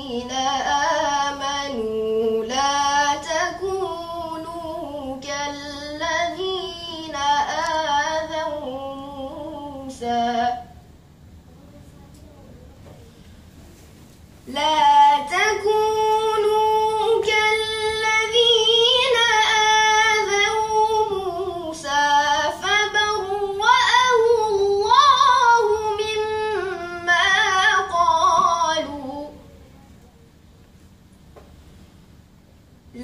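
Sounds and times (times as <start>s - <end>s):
boy reciting melodically: 0.0s - 30.6s.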